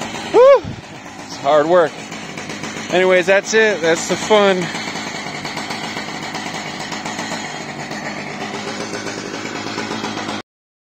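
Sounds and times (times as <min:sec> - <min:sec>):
engine idling: 0:00.0 - 0:10.4.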